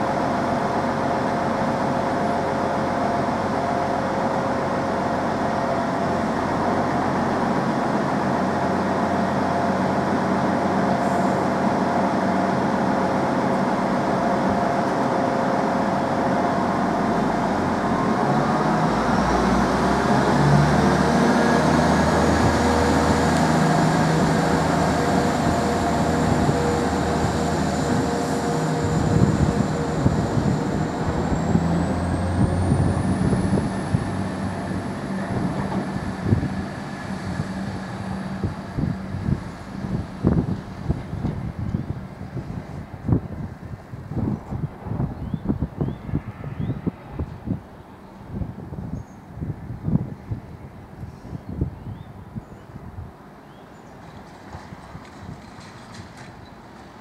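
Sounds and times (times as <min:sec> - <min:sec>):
train diesel engines: 0:00.0 - 0:57.0.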